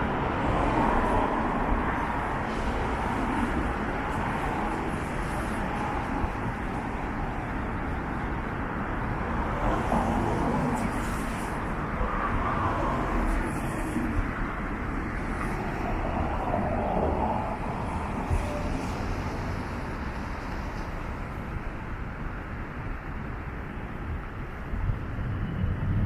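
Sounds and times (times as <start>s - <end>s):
cars passing by: 0.0s - 26.0s
road noise hum: 0.0s - 26.0s.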